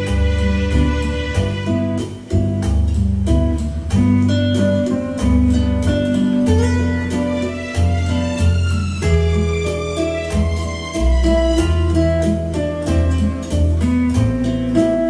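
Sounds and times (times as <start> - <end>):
song with beat and bass line: 0.0 - 15.0.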